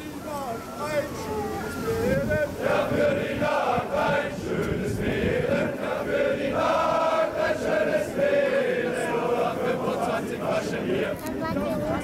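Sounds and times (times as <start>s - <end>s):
men singing in unison: 2.0s - 12.0s.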